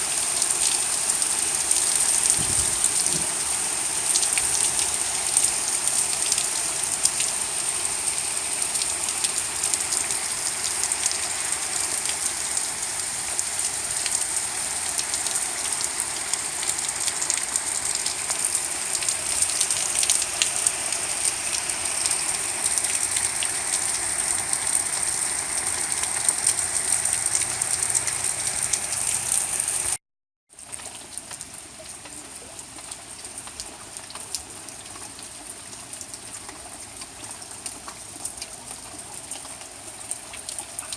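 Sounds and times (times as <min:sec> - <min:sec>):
heavy rain: 0:00.0 - 0:30.0, 0:30.6 - 0:40.9.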